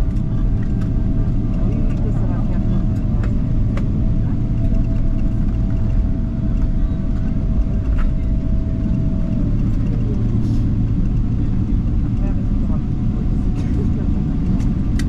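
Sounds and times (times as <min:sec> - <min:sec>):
airplane rolling on runway rumble: 0:00.0 - 0:15.0.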